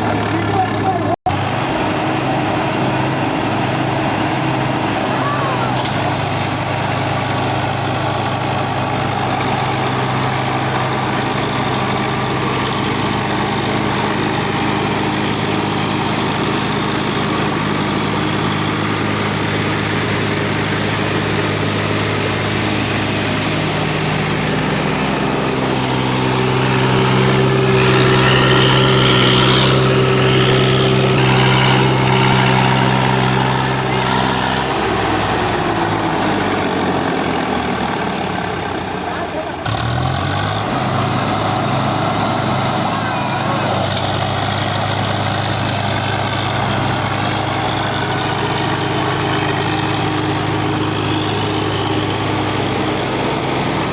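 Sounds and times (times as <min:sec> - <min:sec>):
tractor diesel engines running hard: 0:00.0 - 0:53.9.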